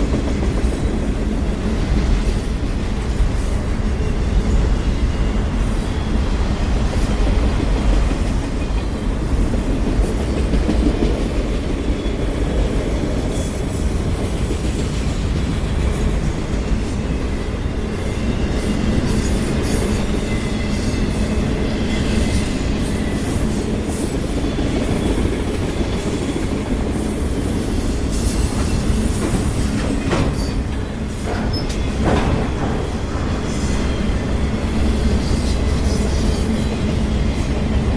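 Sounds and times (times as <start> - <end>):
train wheels rumbling on rail: 0.0 - 37.9.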